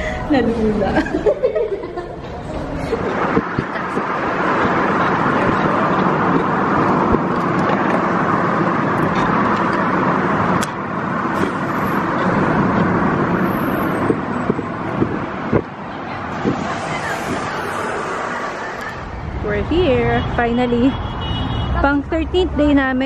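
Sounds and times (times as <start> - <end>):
car engine and tyre noise: 0.0 - 23.0.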